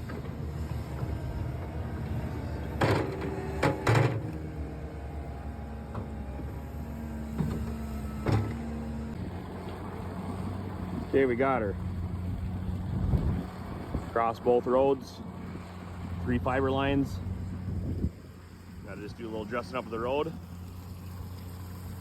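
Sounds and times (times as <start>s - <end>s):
diesel heavy equipment running: 0.0s - 22.0s.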